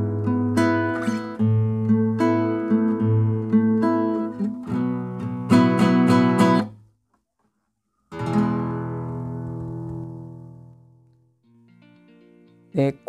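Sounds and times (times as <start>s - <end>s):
classical guitar arpeggio chords: 0.0s - 6.8s, 8.1s - 13.0s.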